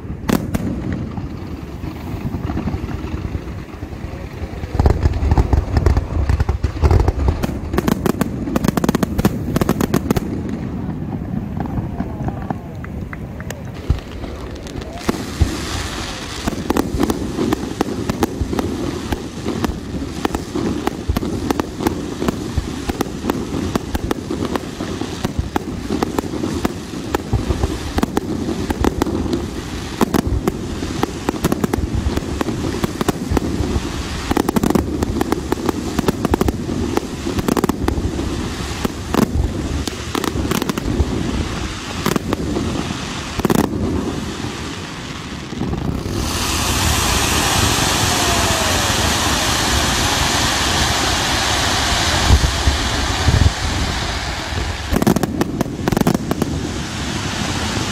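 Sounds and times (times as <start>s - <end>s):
fireworks bursting and crackling: 0.0s - 57.9s.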